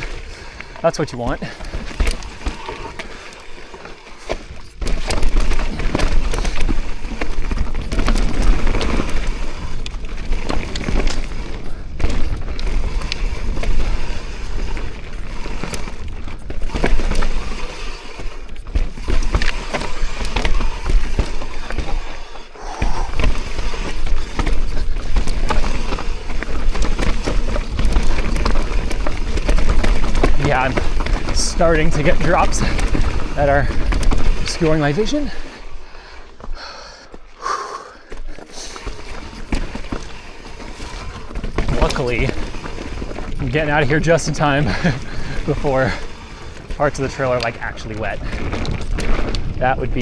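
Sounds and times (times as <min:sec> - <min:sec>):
bike clattering over rocks: 0:00.0 - 0:50.0
tyres rolling rumble: 0:00.0 - 0:50.0.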